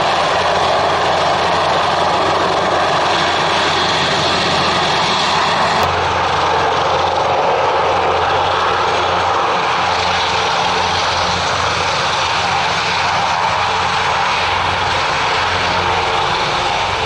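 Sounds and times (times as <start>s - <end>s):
helicopter rotor and turbine noise: 0.0s - 17.0s.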